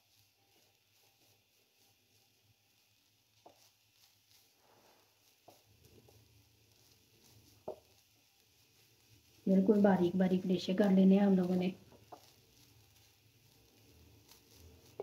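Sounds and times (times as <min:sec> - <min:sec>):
spatula scraping frying pan: 0:00.1 - 0:15.0.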